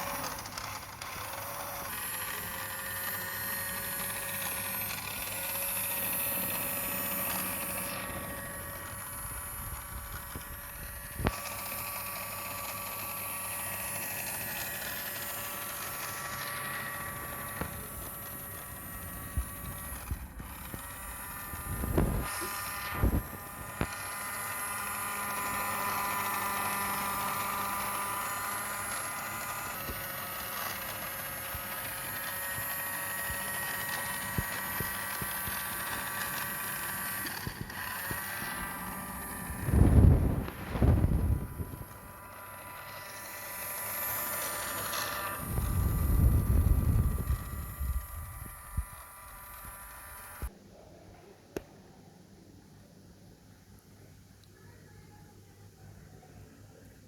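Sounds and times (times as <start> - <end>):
toy car electric motor whining: 0.0 - 50.5.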